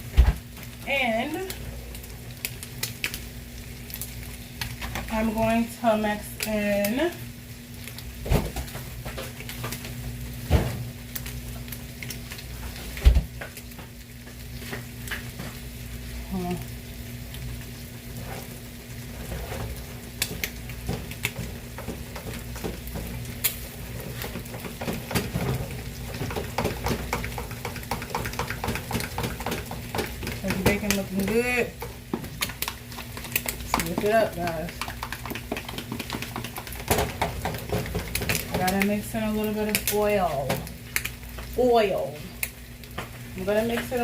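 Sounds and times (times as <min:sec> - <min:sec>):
bacon sizzling in a frying pan: 0:00.0 - 0:44.0.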